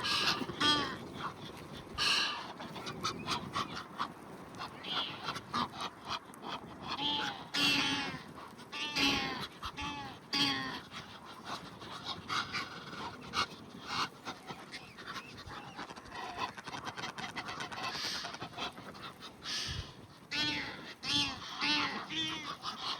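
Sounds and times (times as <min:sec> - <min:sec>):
waterfowl honking and squawking: 0:00.0 - 0:22.9.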